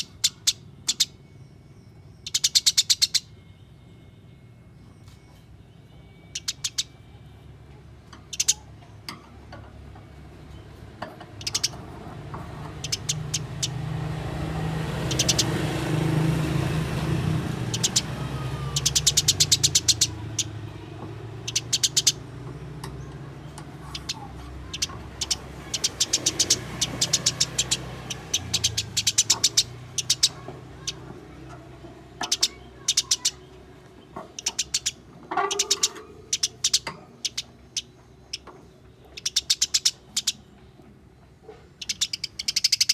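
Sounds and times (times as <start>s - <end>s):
sparrows chattering: 0.0s - 42.9s.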